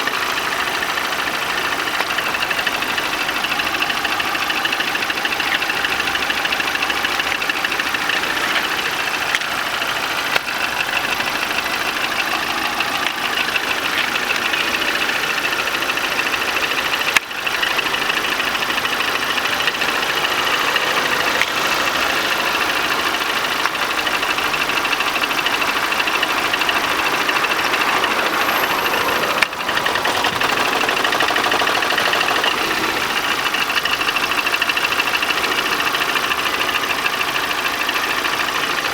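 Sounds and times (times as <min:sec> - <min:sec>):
car engine idling: 0:00.0 - 0:38.9
extraneous engine noise: 0:00.0 - 0:38.9.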